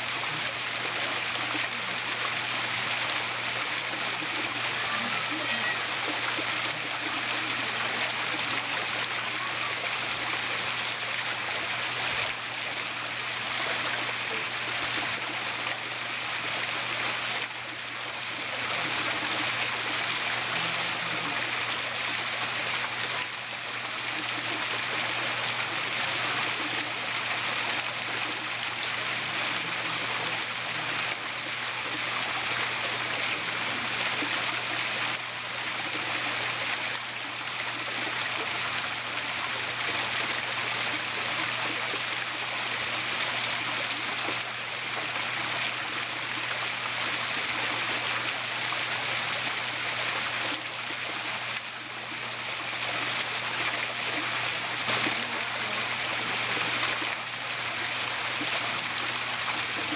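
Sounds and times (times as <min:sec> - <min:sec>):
water falling down a waterfall: 0:00.0 - 0:59.9.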